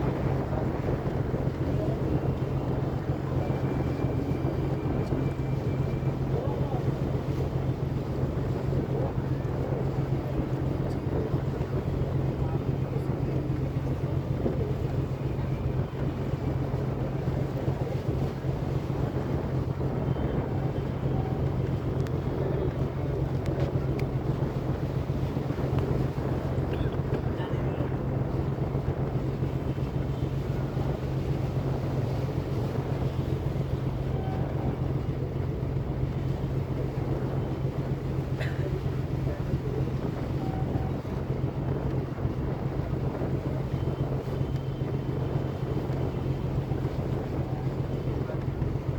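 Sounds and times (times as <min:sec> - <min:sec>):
boat engine droning: 0:00.0 - 0:48.9
water sounds: 0:00.0 - 0:48.9
wind on microphone: 0:00.0 - 0:48.9.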